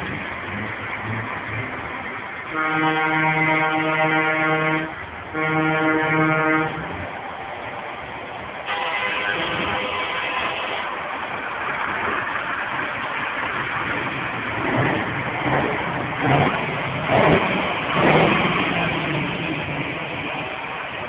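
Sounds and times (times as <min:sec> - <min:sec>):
heavy lorry diesel engines: 0:00.0 - 0:21.0.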